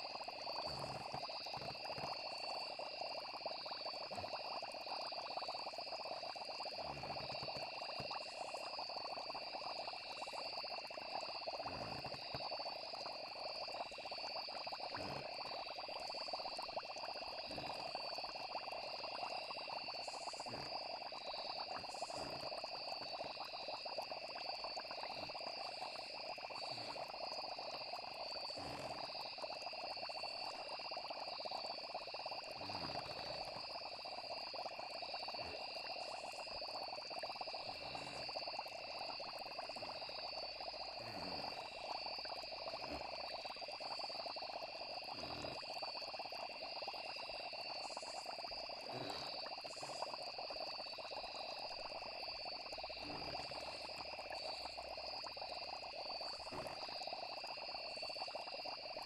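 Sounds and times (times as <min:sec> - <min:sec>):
crickets trilling: 0:00.0 - 0:59.0
frogs chorus: 0:00.0 - 0:59.0.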